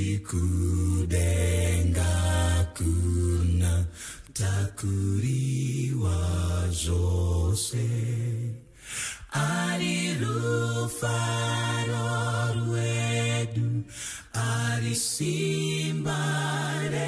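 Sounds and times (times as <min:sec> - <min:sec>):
a cappella group singing in harmony: 0:00.0 - 0:17.0.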